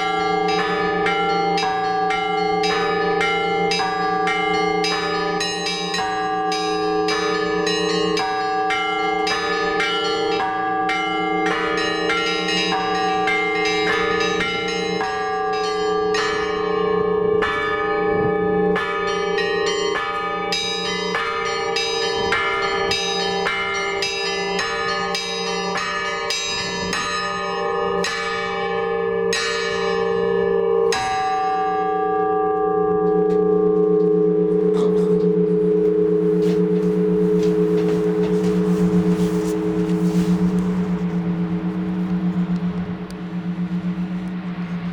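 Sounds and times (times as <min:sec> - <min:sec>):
deep bells humming: 0:00.0 - 0:44.9
small church bells striking: 0:00.0 - 0:44.9.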